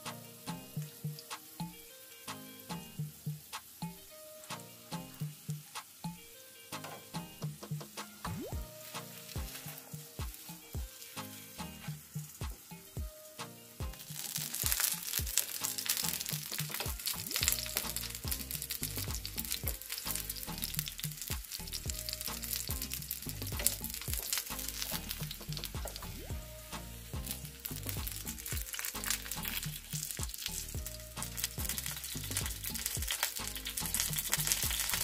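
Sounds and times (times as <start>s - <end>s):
background music: 0.0s - 35.0s
hot oil sizzling and crackling: 0.0s - 35.0s.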